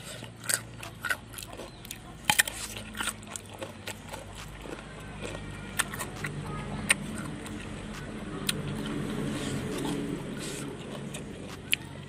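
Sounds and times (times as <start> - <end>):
crunching bites and chewing: 0.0 - 12.0.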